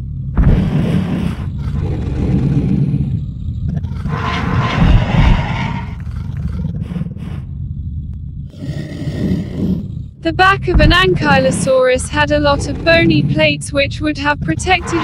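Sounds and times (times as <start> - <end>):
synthesized dinosaur growls: 0.0 - 15.0.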